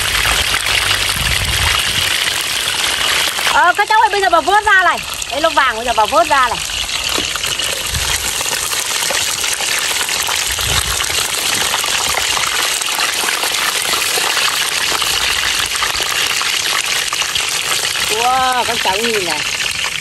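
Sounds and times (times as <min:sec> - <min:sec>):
oil sizzling loudly: 0:00.0 - 0:20.0.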